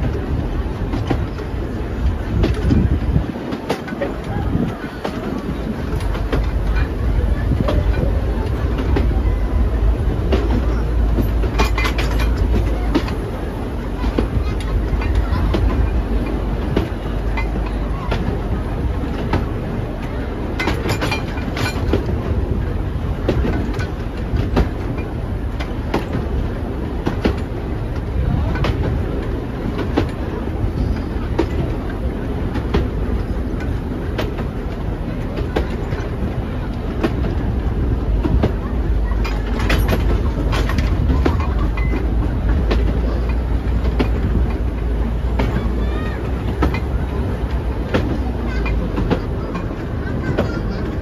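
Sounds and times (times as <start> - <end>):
train carriage rumble: 0.0 - 51.0
wheels clacking over rail joints: 0.0 - 51.0.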